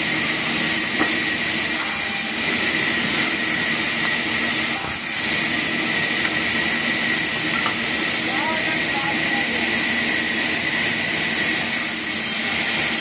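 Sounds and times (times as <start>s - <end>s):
wood-cutting machine hissing: 0.0s - 13.0s.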